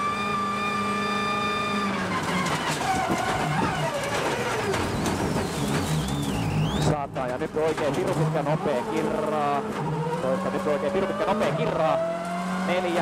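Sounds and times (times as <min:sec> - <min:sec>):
rally car engine from inside: 0:00.0 - 0:13.0.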